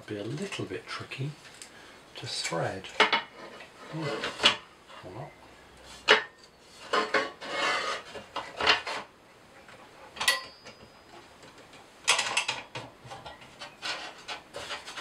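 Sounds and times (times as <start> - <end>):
scrapes of handling: 0.2 - 15.0.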